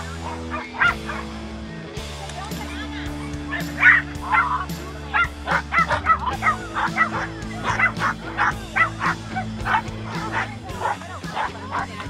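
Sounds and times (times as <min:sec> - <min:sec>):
background music: 0:00.0 - 0:12.0
dog yapping: 0:00.1 - 0:01.3, 0:03.5 - 0:12.0.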